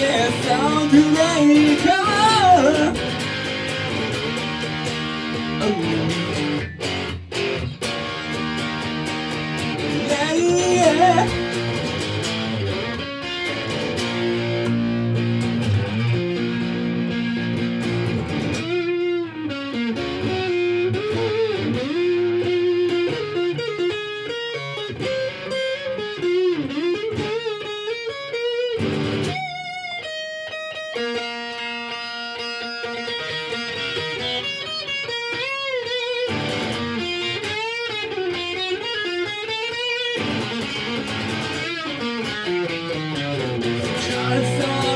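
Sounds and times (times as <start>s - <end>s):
electric guitar playing: 0.0s - 44.9s.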